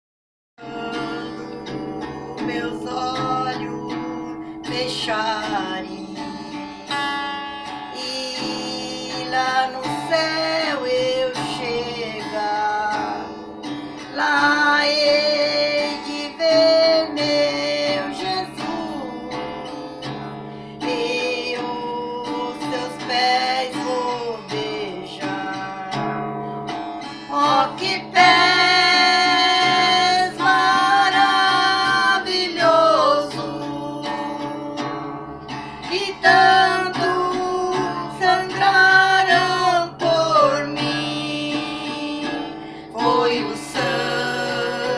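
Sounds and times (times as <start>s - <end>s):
strummed acoustic guitar: 0.6s - 44.9s
women singing: 0.6s - 44.9s.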